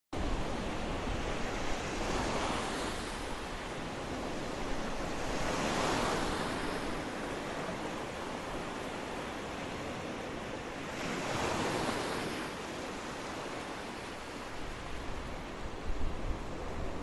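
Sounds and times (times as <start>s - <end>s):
waves breaking on shore: 0.2s - 17.0s.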